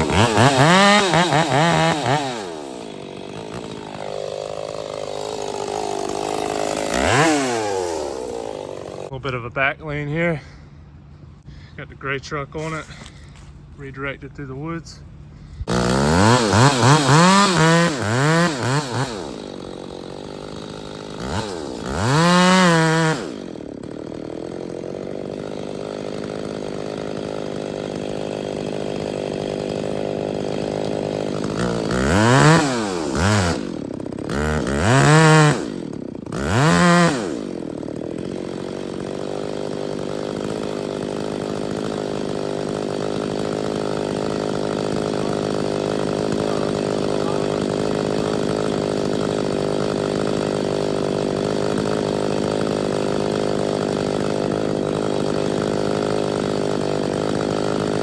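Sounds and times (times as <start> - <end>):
chainsaw revving and idling: 0.0 - 10.4, 12.0 - 58.0.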